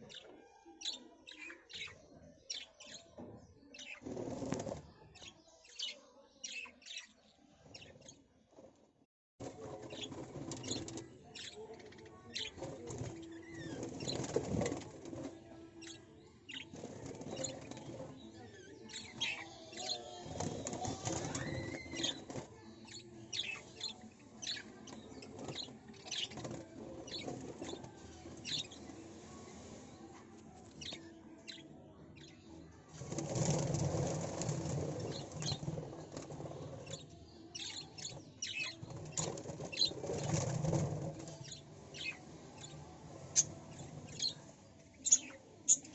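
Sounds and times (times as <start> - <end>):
birds chirping: 0.0 - 8.4, 9.4 - 45.9.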